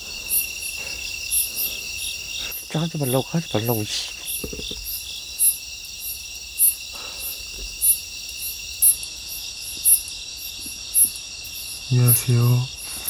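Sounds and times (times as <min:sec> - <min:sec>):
crickets trilling: 0:00.0 - 0:13.0
high-pitched insect chirp: 0:00.0 - 0:13.0.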